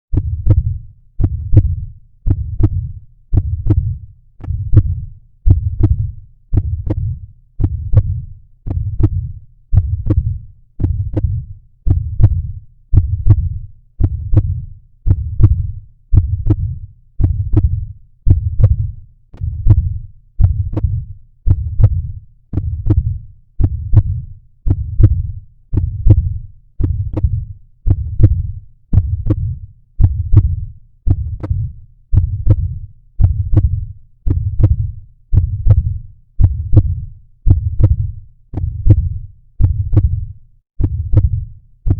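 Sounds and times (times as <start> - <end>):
heartbeat thumps: 0.1 - 41.9.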